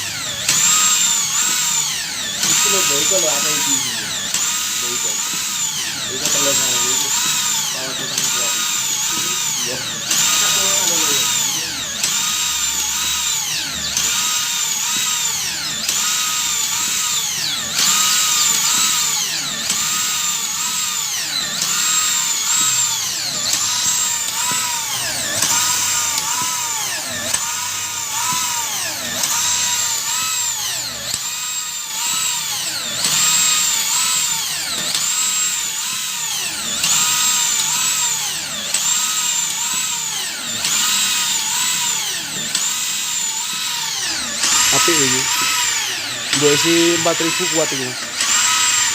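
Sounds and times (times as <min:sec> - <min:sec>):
electric drill whining: 0:00.0 - 0:48.9.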